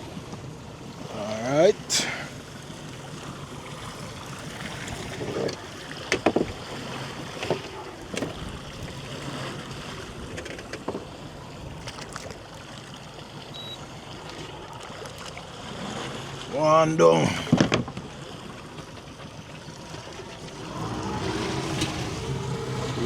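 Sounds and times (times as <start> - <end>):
wind and sea water rushing: 0.0 - 23.0.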